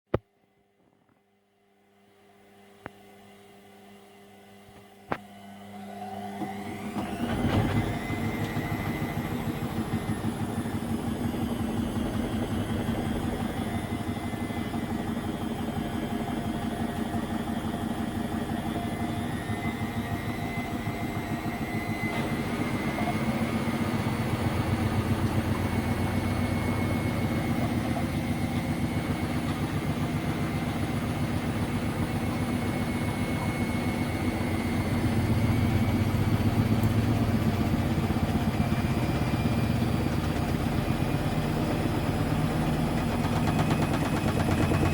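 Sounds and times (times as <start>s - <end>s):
washing machine spinning: 5.3s - 44.9s.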